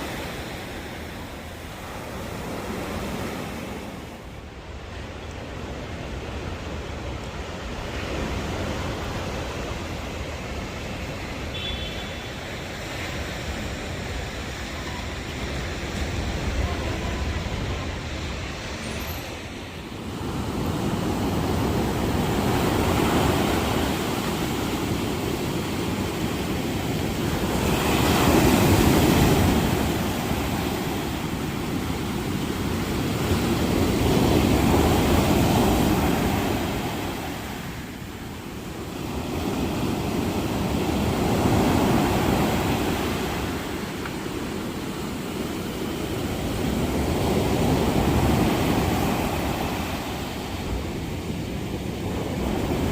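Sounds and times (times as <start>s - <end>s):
ocean waves breaking: 0.0s - 52.9s.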